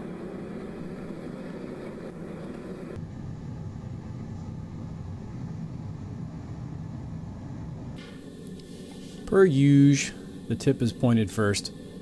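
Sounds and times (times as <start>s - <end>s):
gas forge burner rushing: 0.0s - 12.0s.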